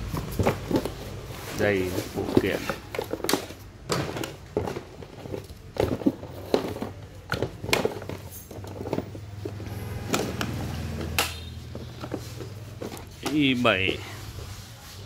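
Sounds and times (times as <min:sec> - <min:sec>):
plastic parts clicking and knocking: 0:00.0 - 0:14.1.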